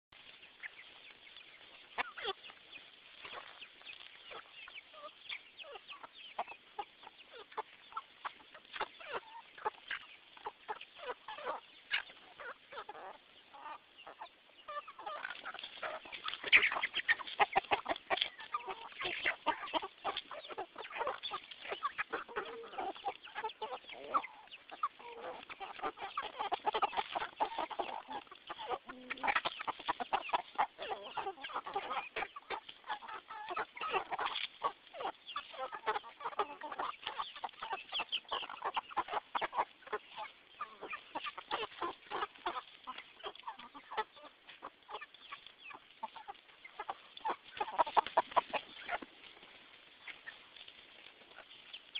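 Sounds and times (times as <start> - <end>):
chickens clucking: 0.1 - 51.9.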